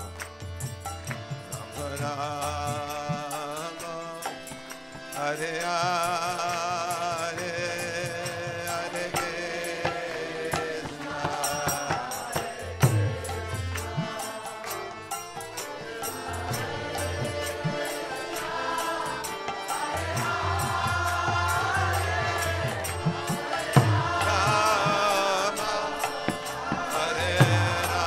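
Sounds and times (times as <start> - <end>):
percussion rhythm: 0.0 - 28.0
voices chanting: 5.2 - 28.0.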